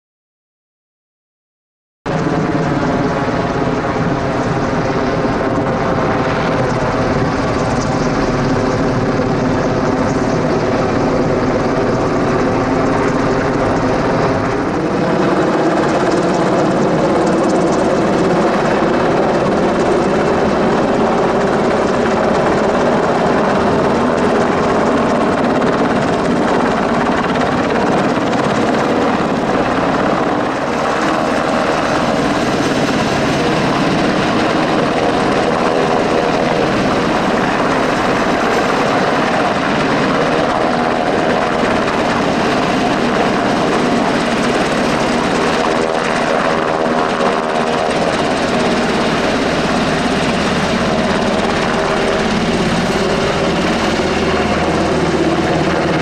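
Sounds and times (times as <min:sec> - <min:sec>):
helicopter hovering: 0:02.1 - 0:56.0.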